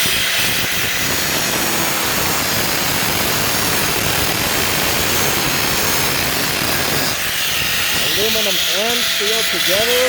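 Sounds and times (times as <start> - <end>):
angle grinder cutting metal: 0.0 - 10.0.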